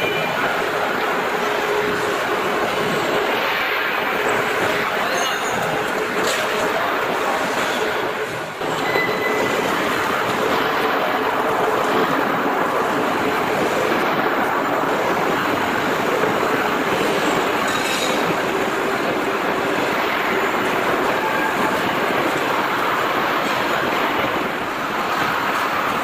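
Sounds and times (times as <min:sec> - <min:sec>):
machinery rushing din: 0:00.0 - 0:26.0.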